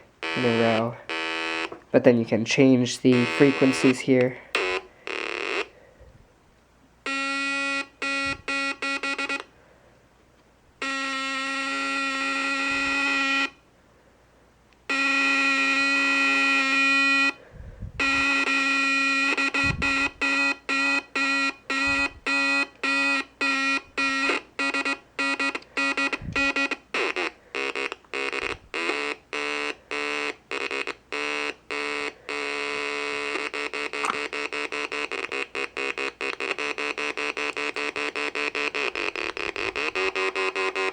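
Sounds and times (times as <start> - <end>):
square-wave buzzing beeps: 0.0 - 1.8, 2.6 - 5.8, 7.0 - 9.5, 10.8 - 13.6, 14.9 - 40.9.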